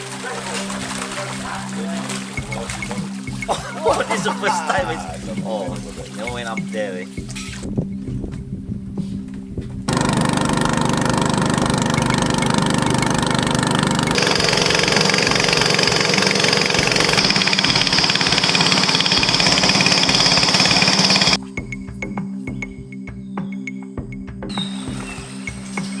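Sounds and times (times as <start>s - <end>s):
boat engine running: 0.0s - 21.4s.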